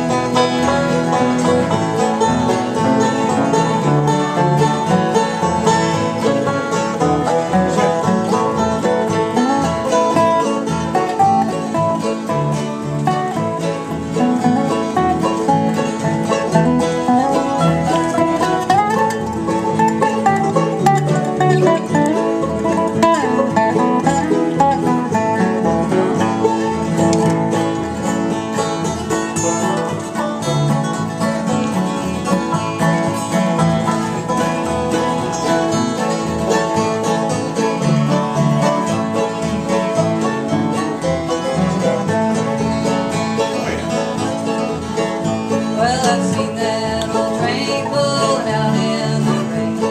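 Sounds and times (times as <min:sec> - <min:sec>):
banjo picking: 0:00.0 - 0:49.9
bluegrass music: 0:00.0 - 0:49.9
guitar picking: 0:00.0 - 0:49.9.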